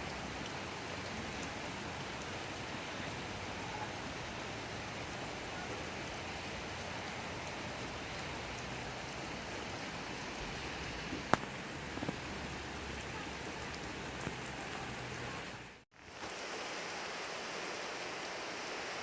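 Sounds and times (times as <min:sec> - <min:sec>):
raindrop tapping: 0:00.0 - 0:15.8
steady rain falling: 0:00.0 - 0:19.0.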